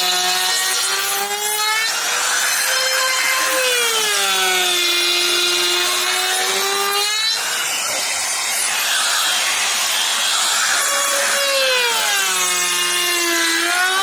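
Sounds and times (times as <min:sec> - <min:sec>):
power tool motor whine: 0:00.0 - 0:14.0
rough wood cutting noise: 0:00.0 - 0:14.0.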